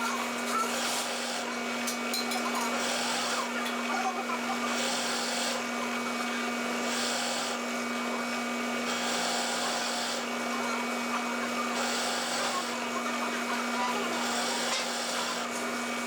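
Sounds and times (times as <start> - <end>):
wood lathe humming: 0.0 - 16.0.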